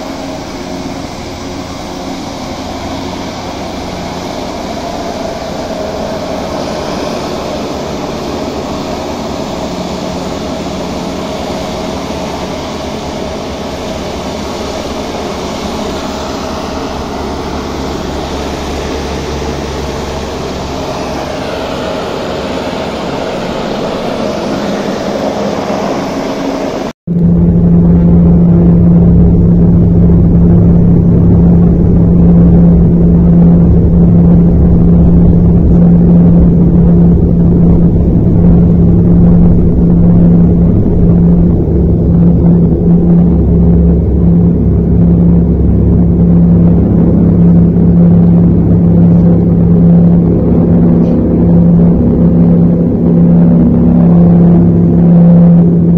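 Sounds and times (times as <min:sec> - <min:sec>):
aircraft cabin engine drone: 0:00.0 - 0:55.9
steady low hum: 0:00.0 - 0:55.9
steady mechanical drone: 0:00.0 - 0:55.9.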